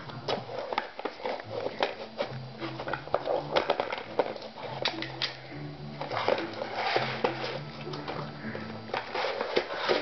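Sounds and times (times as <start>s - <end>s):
dog chewing plastic toy: 0.0s - 10.0s.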